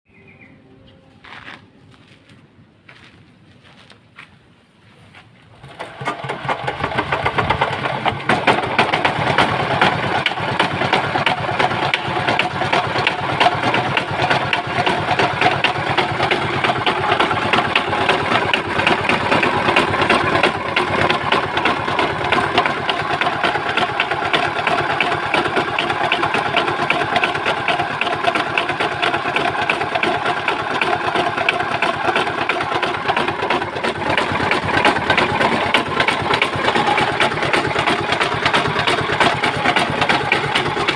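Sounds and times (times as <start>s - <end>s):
diesel engine running: 5.6s - 40.9s.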